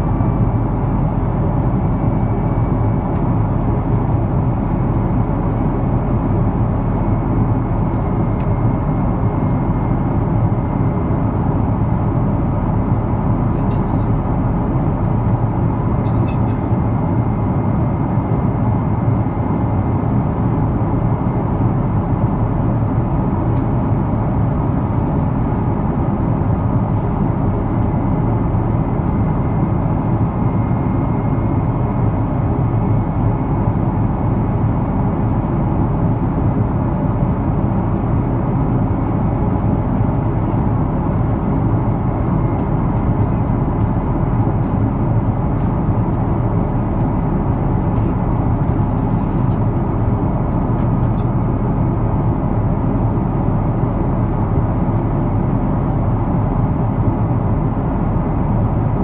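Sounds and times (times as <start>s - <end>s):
jet engines roaring in cabin: 0.0s - 59.0s.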